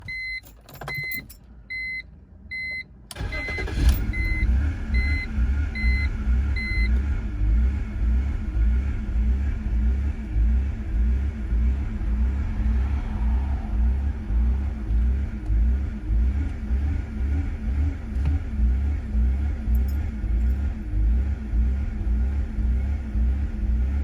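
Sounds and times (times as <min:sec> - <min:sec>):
car engine rough idle: 0:03.2 - 0:24.0.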